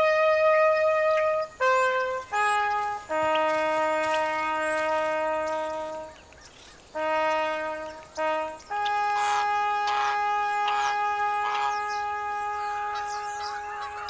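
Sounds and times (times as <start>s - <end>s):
solo wind instrument melody: 0.0s - 14.0s
faint bird chirps: 0.7s - 14.0s.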